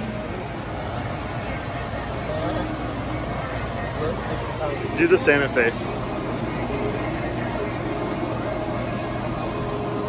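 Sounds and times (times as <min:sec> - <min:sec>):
faint steady tones: 0:00.0 - 0:10.0
machinery hum and hiss: 0:00.0 - 0:10.0.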